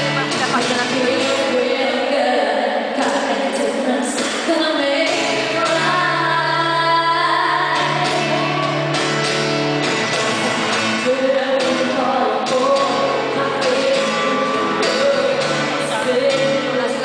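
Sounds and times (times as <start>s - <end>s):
live pop singing with band: 0.0s - 17.0s.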